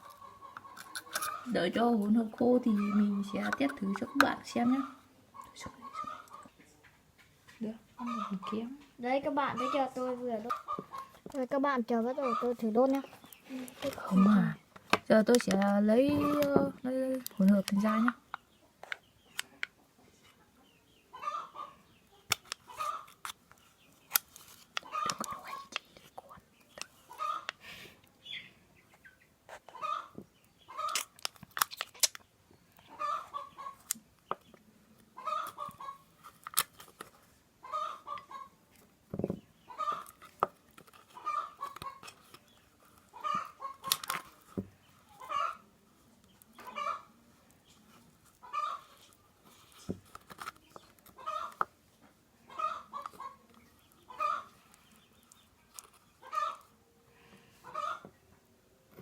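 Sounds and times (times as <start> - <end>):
chicken clucking: 0.0 - 11.3, 12.0 - 14.6, 17.3 - 24.0, 24.8 - 27.6, 28.2 - 31.2, 32.8 - 36.2, 37.6 - 58.4.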